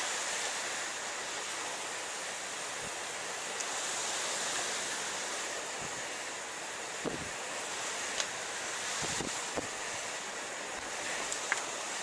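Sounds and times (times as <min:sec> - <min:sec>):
heavy rain hiss: 0:00.0 - 0:12.0
wind: 0:00.0 - 0:12.0.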